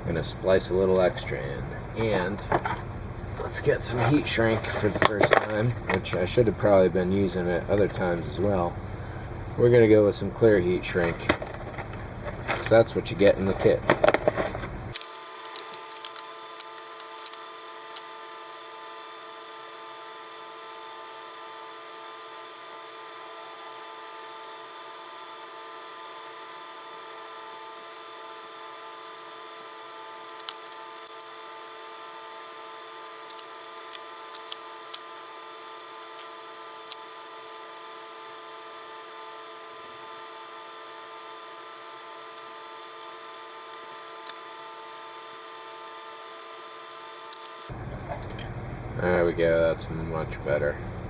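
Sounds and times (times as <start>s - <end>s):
faint hum: 0.0s - 51.0s.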